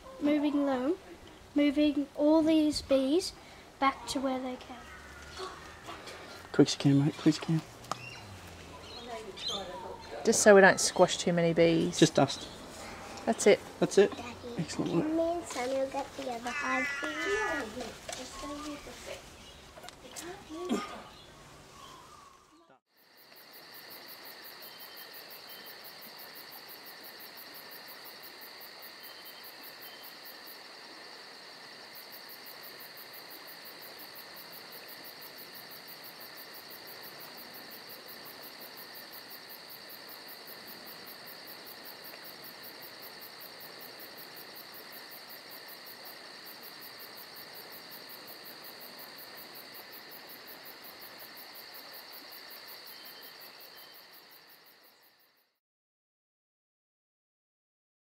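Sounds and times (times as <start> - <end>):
insects chirring: 0.2 - 18.9, 19.6 - 55.6.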